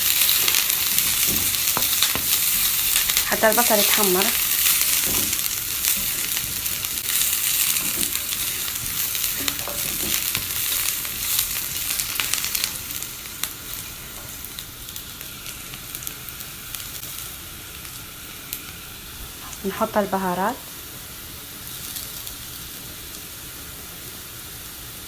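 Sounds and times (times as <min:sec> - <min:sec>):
onion sizzling in a frying pan: 0:00.0 - 0:25.0.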